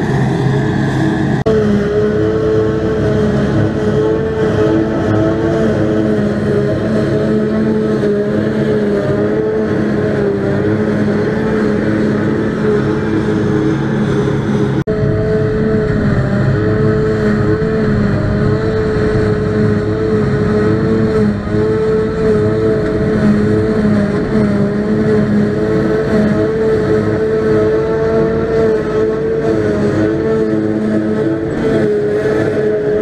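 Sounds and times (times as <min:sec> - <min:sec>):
harvester engine drone: 0:00.0 - 0:33.0
high machine whine: 0:00.0 - 0:33.0.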